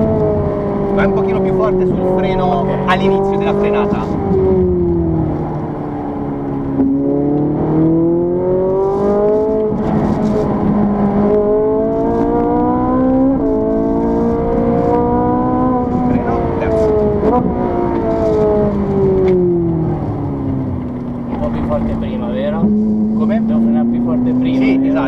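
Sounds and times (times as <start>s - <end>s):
car engine accelerating: 0.0s - 25.0s
gear changes: 0.0s - 25.0s.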